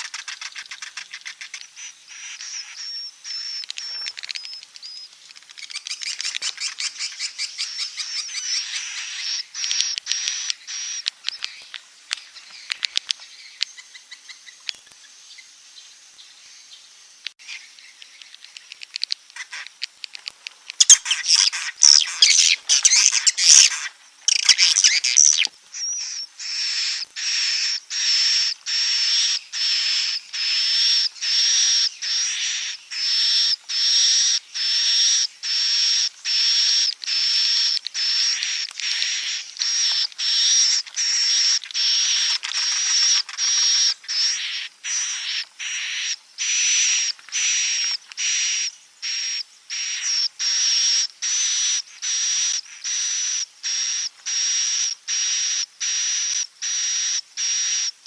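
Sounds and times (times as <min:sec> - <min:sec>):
high repeated bird calls: 0:00.0 - 0:58.0.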